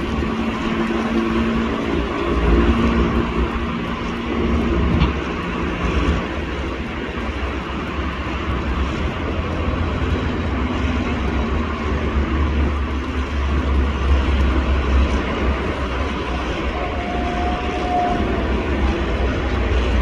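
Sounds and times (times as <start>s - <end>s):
heavy machinery engine rumble: 0.0s - 20.0s.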